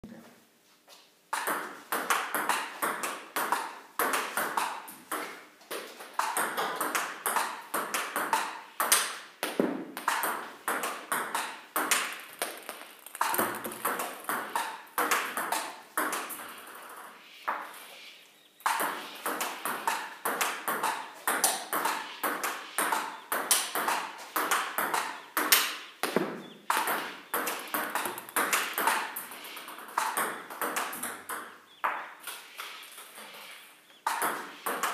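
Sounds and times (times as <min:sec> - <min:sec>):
table tennis balls hitting paddles: 0:01.3 - 0:17.8, 0:18.6 - 0:34.9
ball bouncing on table: 0:01.4 - 0:16.6, 0:18.7 - 0:32.1, 0:34.0 - 0:34.9.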